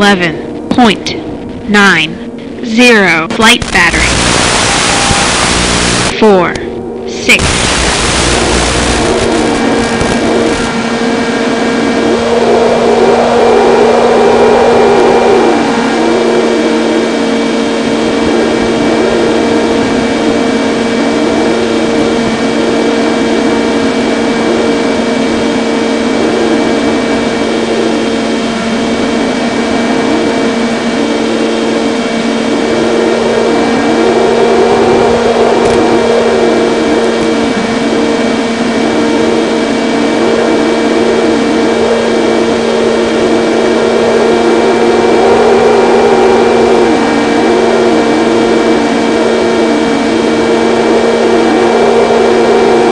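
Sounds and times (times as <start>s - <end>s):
electric motor and propeller drone: 3.6s - 52.9s
wind rushing: 6.8s - 52.9s.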